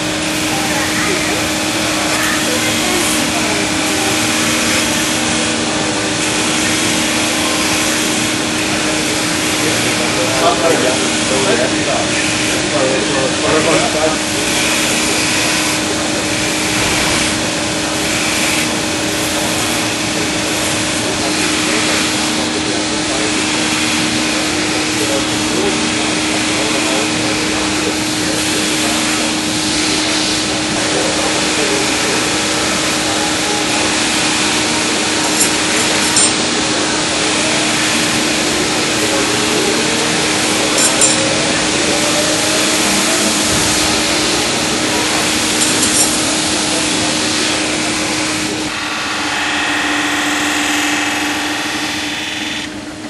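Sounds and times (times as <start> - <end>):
blade ringing on grinding wheel: 0.0 - 53.0
grinding machines humming: 0.0 - 53.0.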